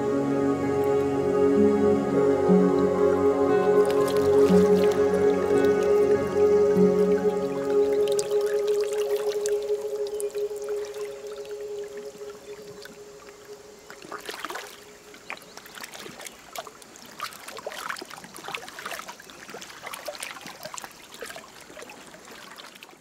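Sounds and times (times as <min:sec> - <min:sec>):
water splashing from wading: 0:02.8 - 0:23.0.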